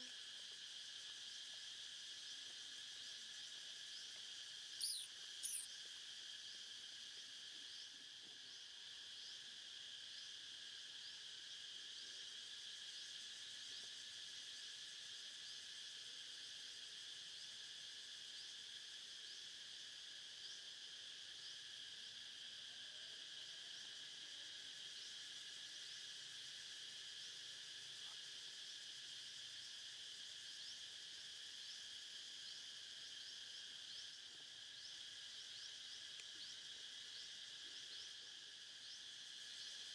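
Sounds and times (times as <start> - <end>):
forest insects buzzing: 0.0 - 39.9
insect chirps: 0.0 - 39.9.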